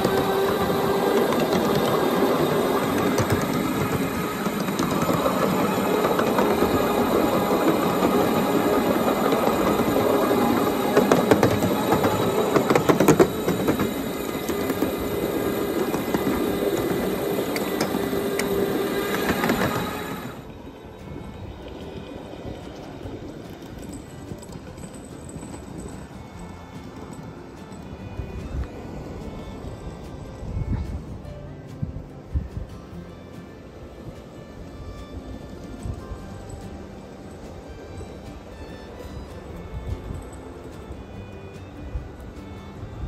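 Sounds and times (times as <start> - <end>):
electric train motor whine: 0.0 - 43.0
steel wheels clicking over rails: 0.0 - 43.0.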